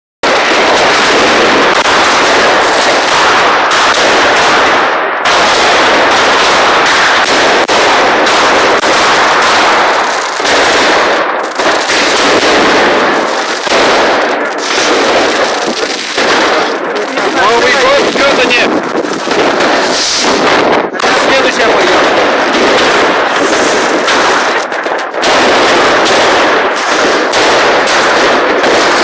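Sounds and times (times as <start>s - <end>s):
firecrackers crackling: 0.2s - 29.0s.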